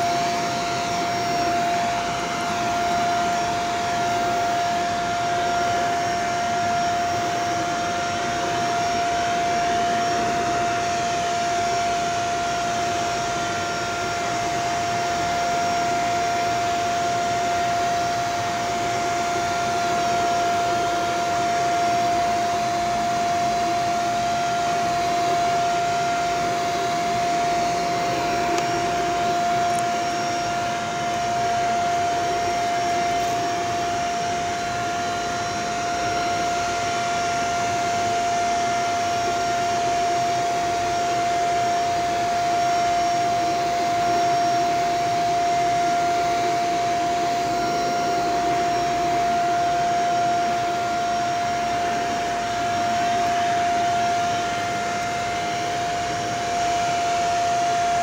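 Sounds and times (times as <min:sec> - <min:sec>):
vacuum cleaner on carpet: 0:00.0 - 0:58.0.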